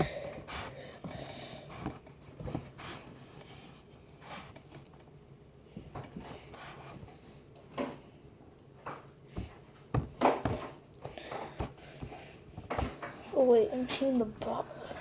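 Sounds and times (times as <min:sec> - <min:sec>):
handling knocks and rubs: 0:00.0 - 0:08.1, 0:08.7 - 0:15.0.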